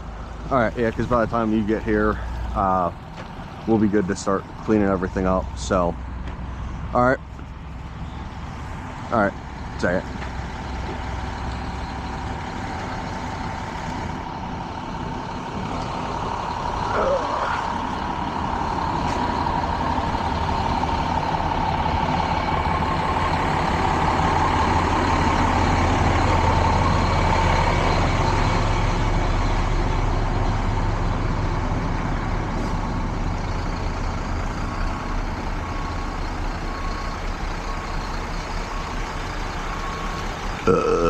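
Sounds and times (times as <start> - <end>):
heavy truck engine running: 0.0 - 41.0.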